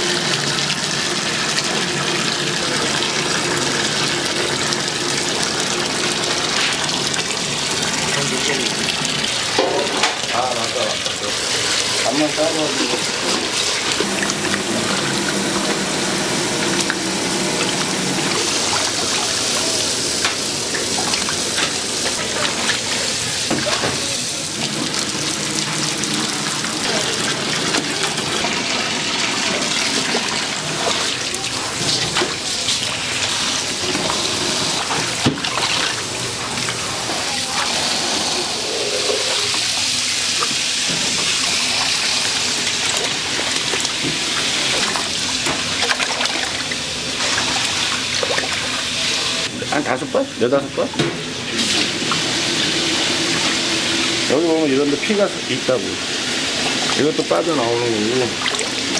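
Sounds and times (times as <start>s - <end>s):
tap water splashing in sink: 0.0s - 49.3s, 50.8s - 55.3s, 56.4s - 58.9s.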